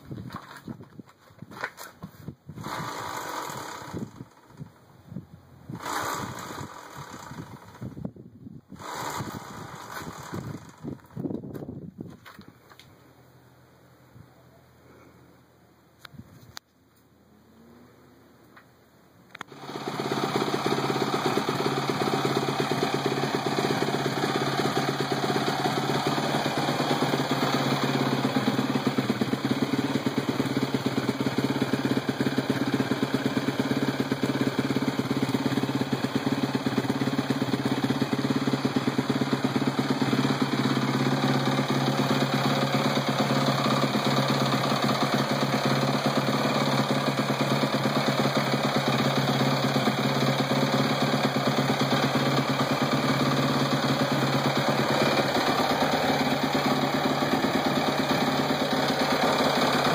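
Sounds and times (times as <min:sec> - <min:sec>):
motorcycle engine idling: 0:00.0 - 0:08.2, 0:08.8 - 0:12.8, 0:19.3 - 0:59.9.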